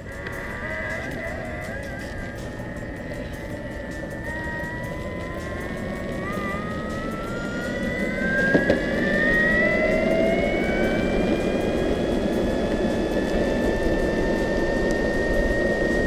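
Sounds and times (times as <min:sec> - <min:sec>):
electric motor whining: 0:00.0 - 0:16.0
wheels rumbling on road: 0:00.0 - 0:16.0
wind: 0:00.0 - 0:16.0.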